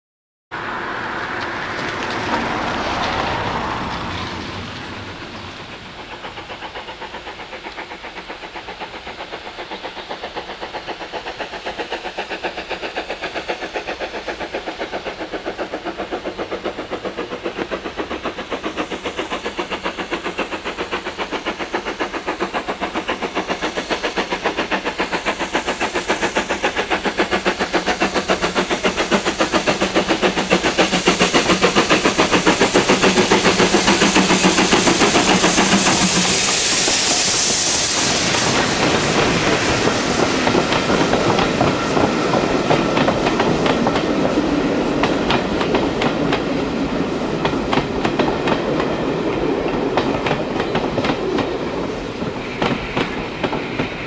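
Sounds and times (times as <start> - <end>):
steam hissing rush: 0.6 - 54.0
steam locomotive exhaust chuffs: 0.6 - 54.0.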